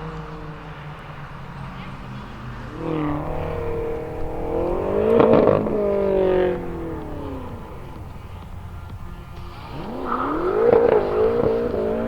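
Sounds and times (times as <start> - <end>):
car accelerating past: 0.0 - 12.0.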